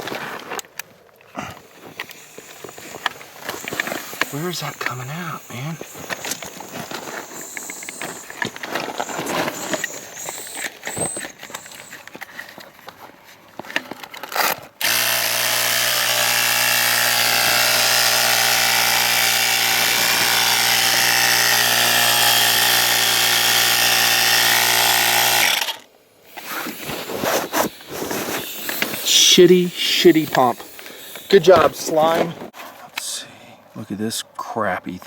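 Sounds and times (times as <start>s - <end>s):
tire compressor buzzing hum: 1.7s - 12.3s, 14.3s - 32.5s.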